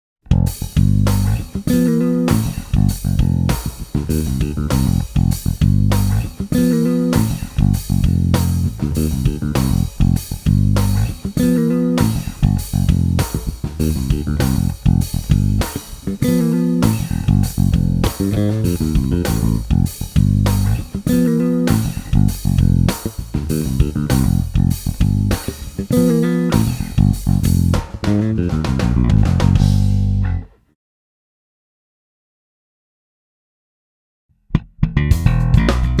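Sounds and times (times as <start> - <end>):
electric bass riff: 0.2 - 30.6, 34.5 - 36.0.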